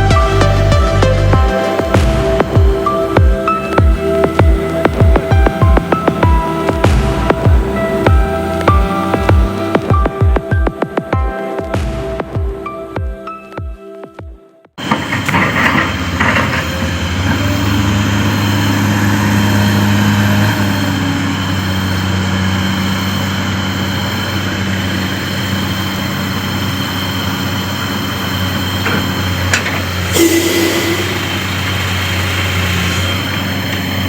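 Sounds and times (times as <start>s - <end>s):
diesel machinery engine running: 0.0s - 10.0s, 14.8s - 34.0s.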